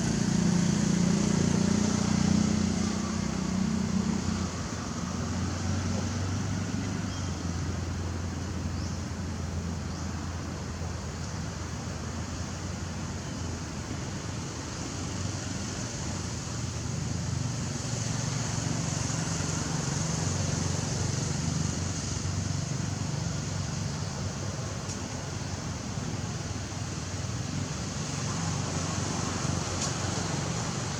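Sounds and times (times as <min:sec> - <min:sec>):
high hiss: 0:00.0 - 0:30.9
vehicle engine hum: 0:00.0 - 0:30.9.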